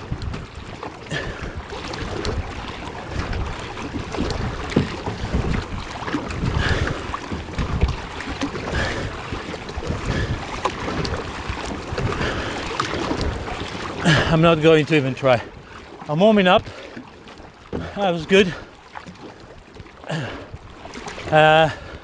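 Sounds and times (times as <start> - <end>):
water splashing against kayak: 0.0 - 22.0
wind buffeting microphone: 0.0 - 22.0.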